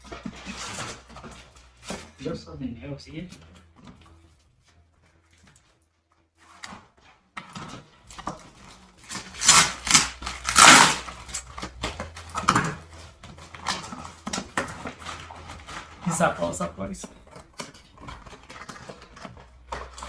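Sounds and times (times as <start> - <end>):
packaging rustling: 0.0 - 2.3, 3.3 - 20.0.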